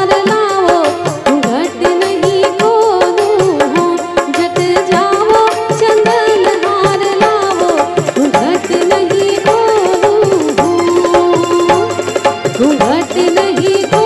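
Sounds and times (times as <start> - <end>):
hand drum rhythm: 0.0 - 14.0
woman singing folk song: 0.0 - 14.0.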